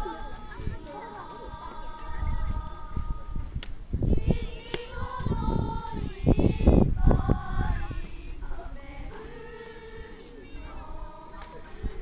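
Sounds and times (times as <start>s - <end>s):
children singing unaccompanied: 0.0s - 12.0s
wind gusts on microphone: 0.0s - 12.0s.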